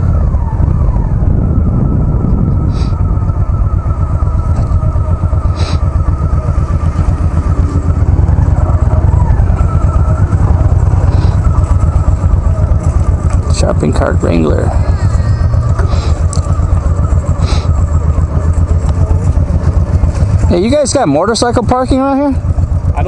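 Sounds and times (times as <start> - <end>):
engine crackles: 0.0 - 23.0
motorcycle engine running: 0.0 - 23.0.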